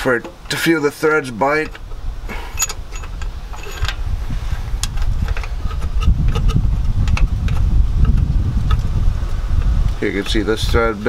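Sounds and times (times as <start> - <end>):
low rumble: 1.8 - 10.7.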